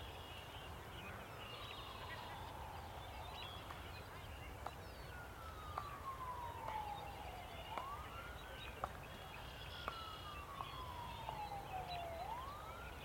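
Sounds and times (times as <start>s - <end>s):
faint emergency siren wailing: 0.2s - 13.0s.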